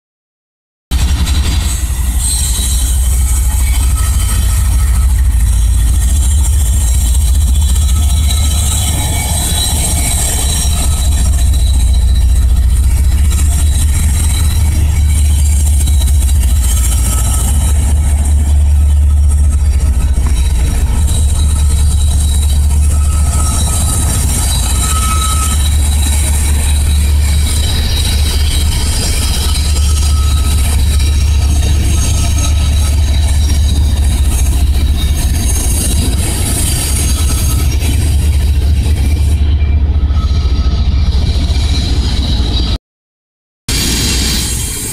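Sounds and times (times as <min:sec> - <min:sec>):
freight train rumbling past: 0:00.9 - 0:42.8
faint train wheel squeal: 0:01.1 - 0:42.8.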